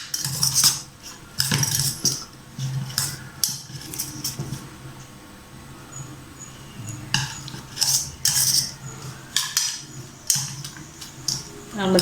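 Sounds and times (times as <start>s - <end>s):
utensil scraping a bowl: 0.0s - 4.8s, 6.5s - 12.0s.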